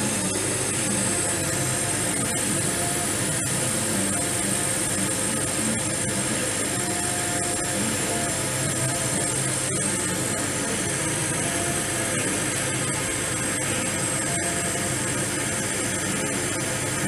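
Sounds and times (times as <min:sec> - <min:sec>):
laser cutter whirring: 0:00.0 - 0:17.0
thin high whine: 0:00.0 - 0:17.0.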